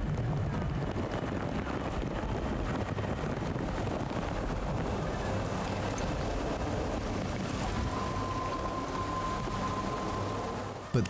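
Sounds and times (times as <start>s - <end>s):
steady rushing rumbling noise: 0.0s - 11.0s.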